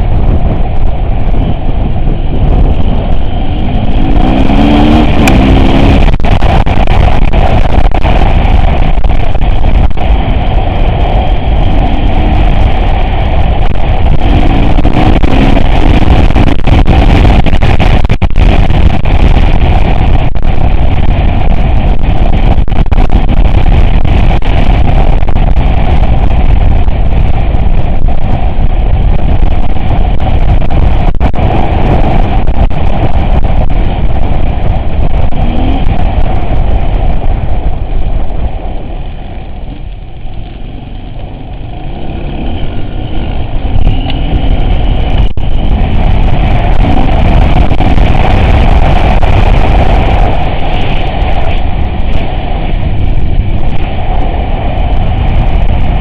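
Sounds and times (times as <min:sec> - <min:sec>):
off-road vehicle rumbling: 0:00.0 - 0:56.0
engine revving: 0:01.4 - 0:36.9, 0:41.4 - 0:51.3.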